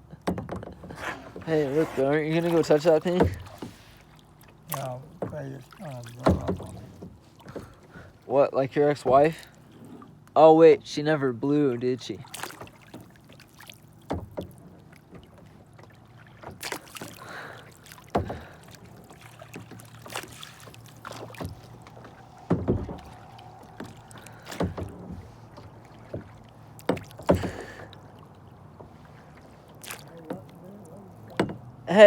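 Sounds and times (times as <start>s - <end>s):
kayak splashes and knocks: 0.0s - 10.3s, 12.1s - 32.0s.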